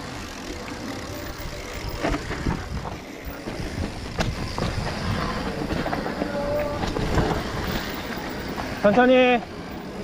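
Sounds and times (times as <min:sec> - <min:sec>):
bike knocks and rattles: 0:00.0 - 0:09.6
bike tyre rumble on dirt: 0:00.0 - 0:09.6.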